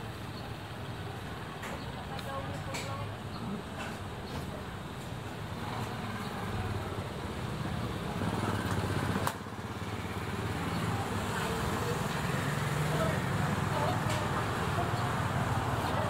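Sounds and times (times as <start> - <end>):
motorbike engines rumbling: 0.0 - 16.0.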